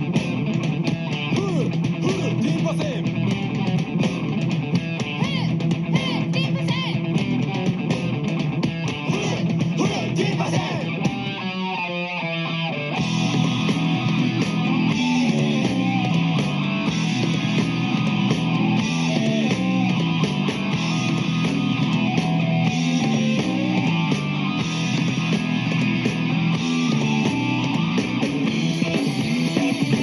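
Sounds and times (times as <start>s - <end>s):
rock music with electric guitar: 0.0s - 30.0s.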